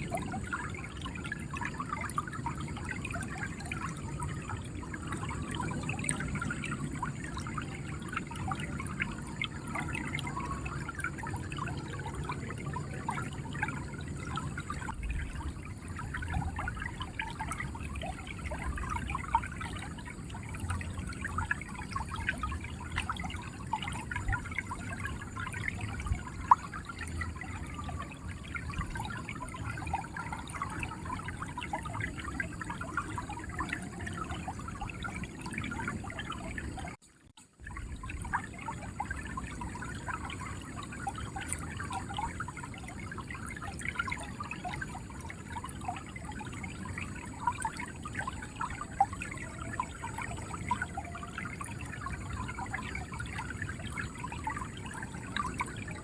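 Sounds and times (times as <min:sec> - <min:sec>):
river water gurgling over stones: 0:00.0 - 0:56.0.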